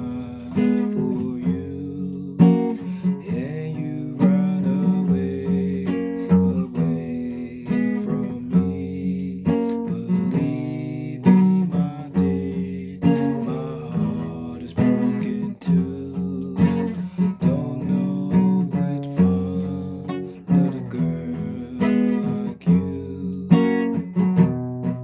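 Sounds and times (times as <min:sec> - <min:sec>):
guitar strummed and plucked: 0:00.0 - 0:25.0.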